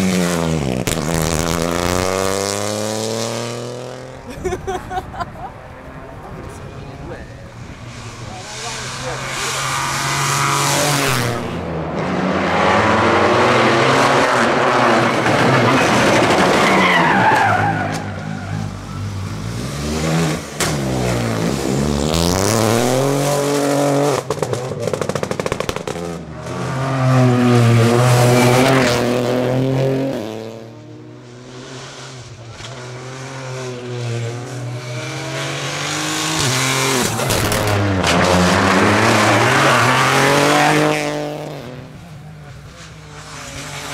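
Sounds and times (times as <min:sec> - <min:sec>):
rally car engine revving: 0:00.0 - 0:04.3, 0:06.5 - 0:43.9.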